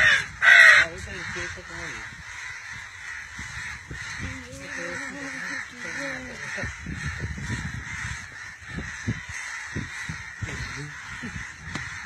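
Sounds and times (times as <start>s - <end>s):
crows cawing: 0.0s - 12.0s
wind rumbling on microphone: 0.0s - 12.0s.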